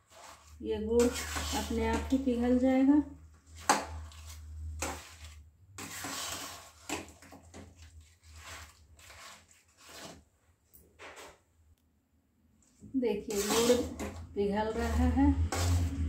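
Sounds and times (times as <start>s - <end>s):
metal spatula scraping thick mash: 0.0s - 10.3s, 12.7s - 16.0s.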